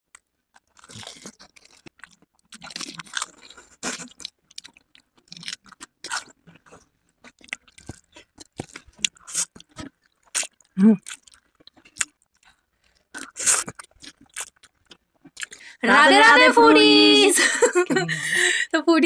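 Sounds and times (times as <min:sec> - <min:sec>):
crunching and chewing: 0:00.1 - 0:15.6.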